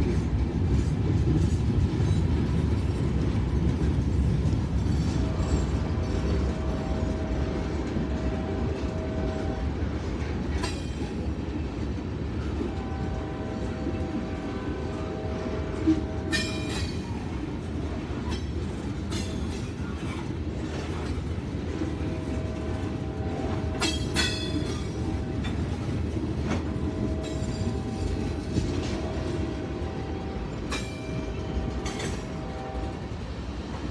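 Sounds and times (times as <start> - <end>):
sharp clanks from train cars: 0.0 - 14.2, 15.6 - 33.9
train cars rumbling past: 0.0 - 33.9.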